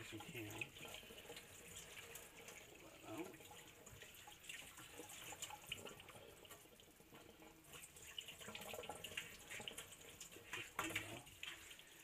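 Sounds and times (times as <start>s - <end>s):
faucet running: 0.0s - 12.0s
water splashing and dripping: 0.0s - 12.0s.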